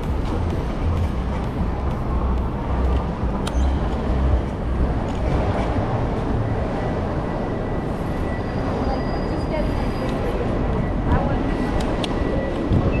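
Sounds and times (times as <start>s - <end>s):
road traffic noise: 0.0s - 13.0s
wind on microphone: 1.0s - 13.0s.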